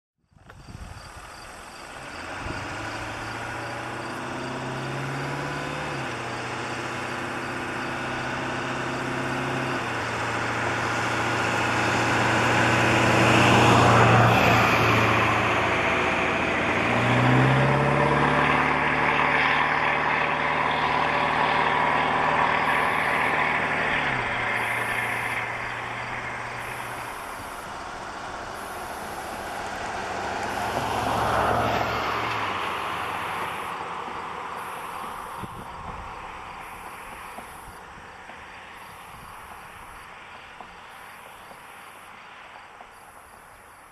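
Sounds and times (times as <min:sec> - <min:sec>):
vehicle engine running: 0:00.3 - 0:43.9.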